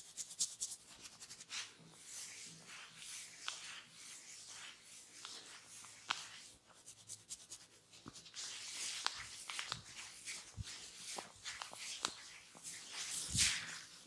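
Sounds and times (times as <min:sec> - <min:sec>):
hands rubbing skin and hair: 0:00.0 - 0:14.0.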